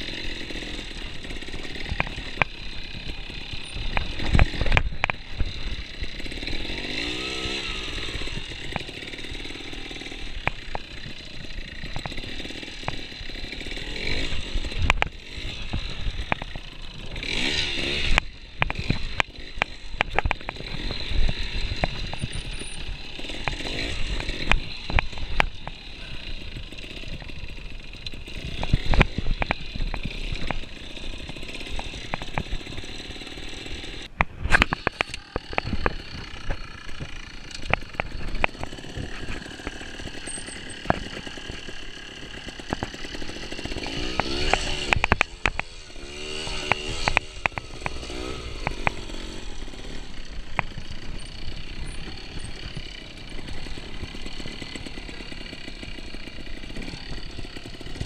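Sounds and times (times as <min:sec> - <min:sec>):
motorcycle engine throttle blips: 0:00.0 - 0:58.0
motorcycle knocking and clattering: 0:00.0 - 0:58.0.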